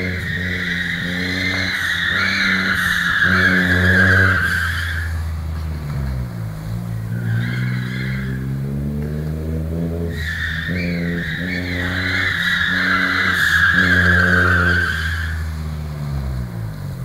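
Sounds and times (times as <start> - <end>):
car engine pulling hard: 0.0 - 17.0
tyres squealing: 0.0 - 17.0.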